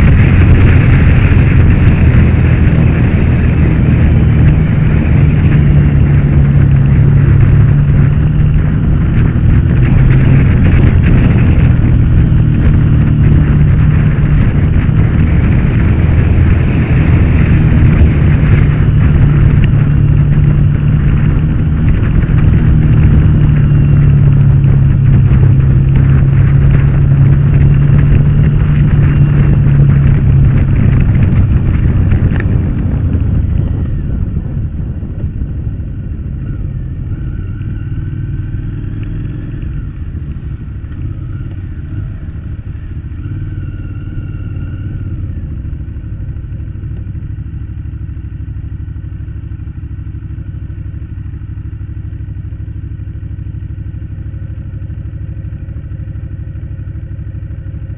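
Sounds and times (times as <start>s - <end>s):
motorcycle engine: 0.0s - 57.9s
wind noise: 0.0s - 57.9s.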